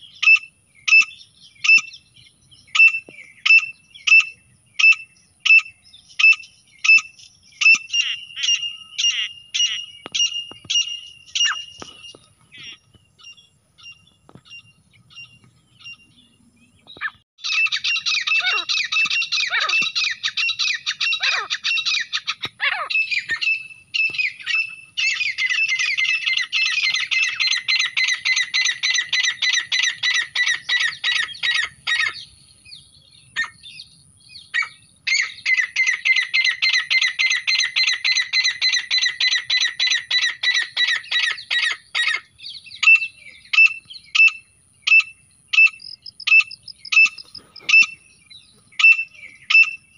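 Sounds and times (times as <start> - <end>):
francolin calling: 0.0 - 49.9.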